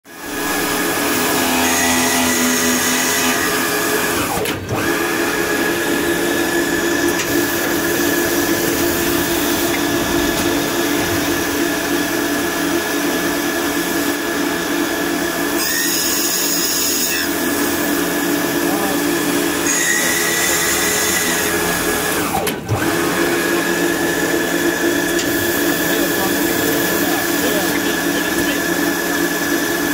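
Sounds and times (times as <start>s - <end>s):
drill motors whining: 0.1s - 29.9s.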